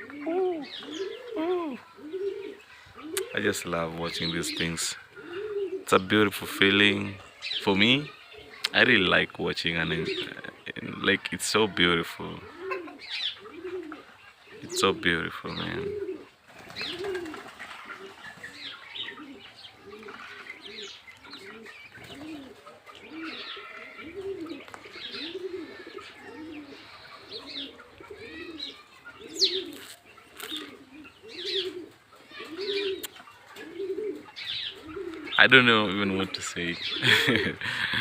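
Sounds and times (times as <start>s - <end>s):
birds cooing: 0.0s - 38.0s
small birds chirping: 0.0s - 38.0s.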